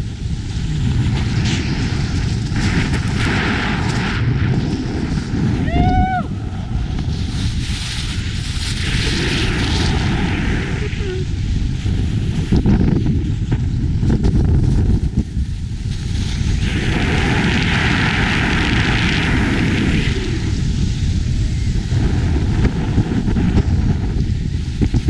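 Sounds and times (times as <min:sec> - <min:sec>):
wind buffeting microphone: 0:00.0 - 0:25.0
snowboard edge scraping snow: 0:00.6 - 0:05.6, 0:06.8 - 0:25.0.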